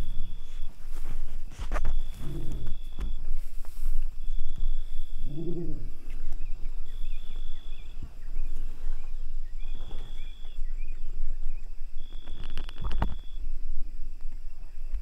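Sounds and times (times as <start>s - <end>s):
low animal call: 0.0s - 13.5s
faint high chirps: 1.7s - 15.0s.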